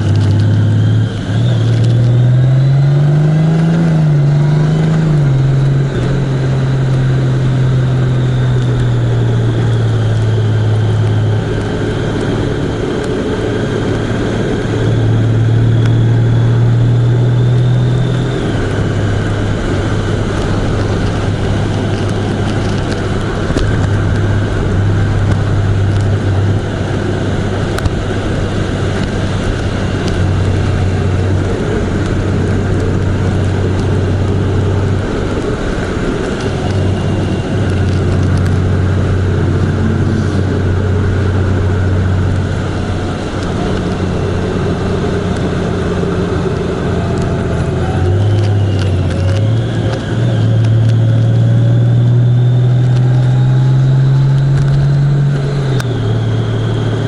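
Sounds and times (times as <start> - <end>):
road noise: 0.0 - 57.0
vehicle engine while driving: 0.0 - 57.0.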